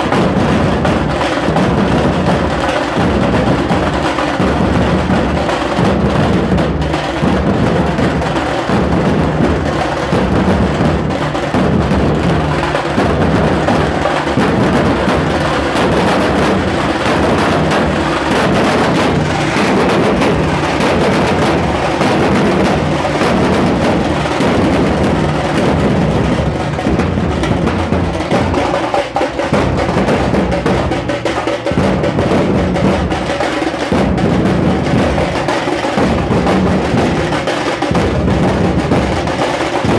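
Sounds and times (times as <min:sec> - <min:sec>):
dhol drums beaten with sticks: 0:00.0 - 0:39.9.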